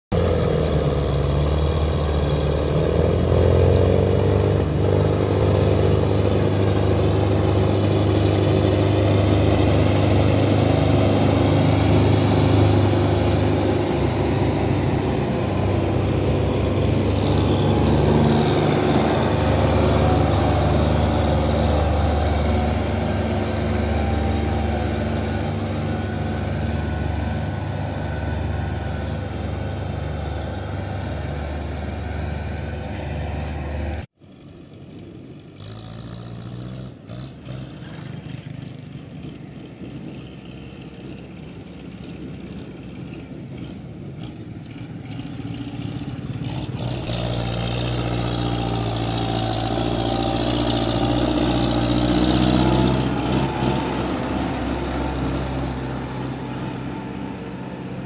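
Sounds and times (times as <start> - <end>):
diesel tractor engine labouring: 0.1 - 58.0.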